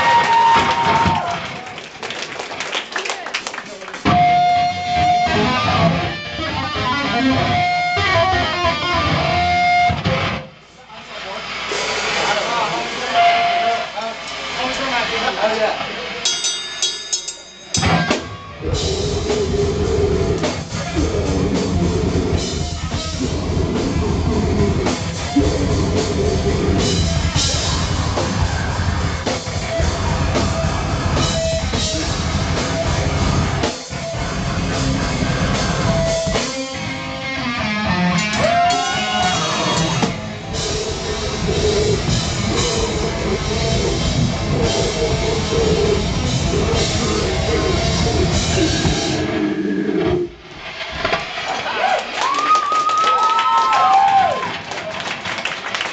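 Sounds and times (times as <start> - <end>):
drum kit: 0.0 - 1.6, 4.0 - 10.5, 11.4 - 52.4
loud rock band playing: 0.0 - 1.6, 4.0 - 52.4.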